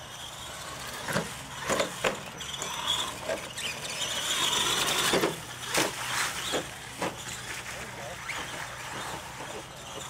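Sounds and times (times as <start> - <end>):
toy truck drivetrain whining: 0.0 - 10.0
truck knocking over bumps: 0.8 - 7.5, 8.2 - 10.0.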